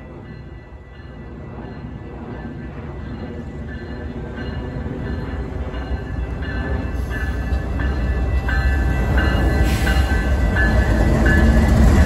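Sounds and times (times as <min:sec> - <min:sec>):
locomotive engine and rail rumble: 0:00.0 - 0:12.0.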